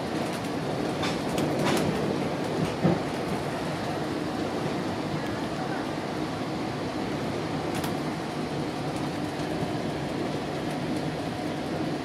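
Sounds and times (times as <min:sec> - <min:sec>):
train ride rumble: 0:00.0 - 0:12.0.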